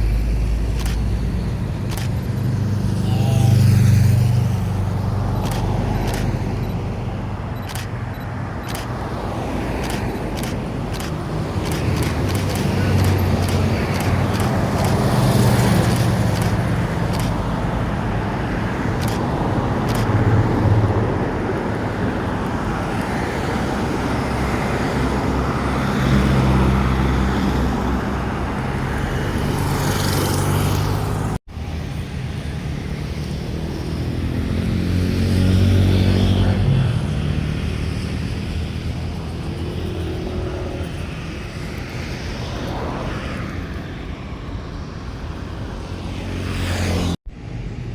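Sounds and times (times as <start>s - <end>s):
vehicle engines running: 0.0s - 42.9s
road traffic noise: 0.0s - 47.9s.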